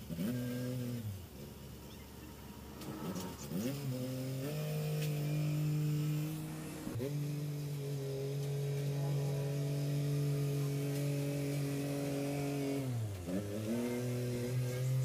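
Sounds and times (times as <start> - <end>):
tractor engine revving: 0.0 - 15.0.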